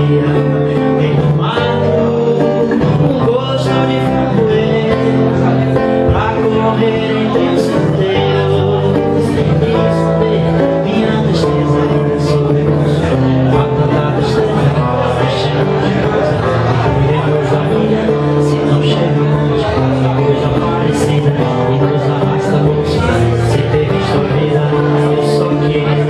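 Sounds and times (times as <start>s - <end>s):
classical guitar: 0.0s - 26.0s
man singing: 0.0s - 26.0s.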